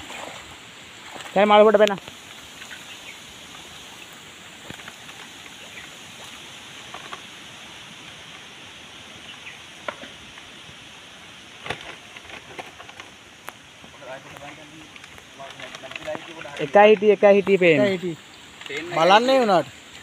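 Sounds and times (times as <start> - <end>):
steady hiss: 0.0 - 20.0
water splashing and dripping: 0.0 - 20.0.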